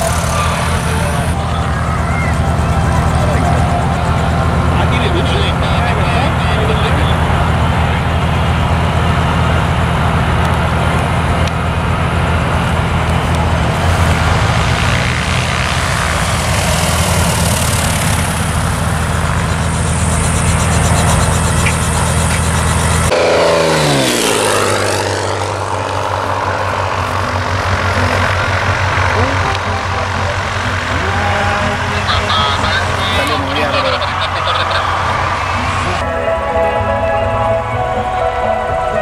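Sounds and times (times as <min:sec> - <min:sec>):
engine passing by: 0:00.0 - 0:39.0
light aircraft engine running: 0:00.0 - 0:39.0.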